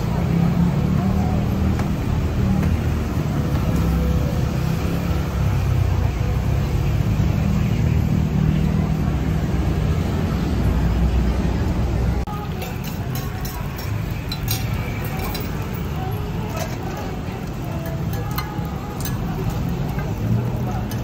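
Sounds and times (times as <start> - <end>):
low rumble of road traffic: 0.0 - 21.0.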